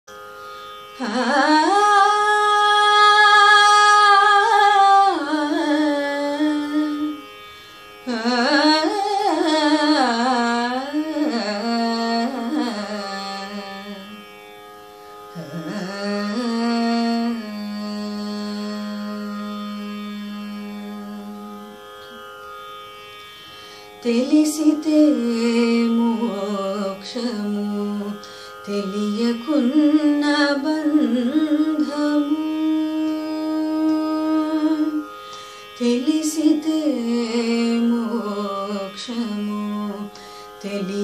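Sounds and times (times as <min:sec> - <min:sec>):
woman singing wordlessly: 0:01.0 - 0:07.2, 0:08.1 - 0:14.2, 0:15.4 - 0:21.3, 0:24.0 - 0:35.1, 0:35.8 - 0:41.0.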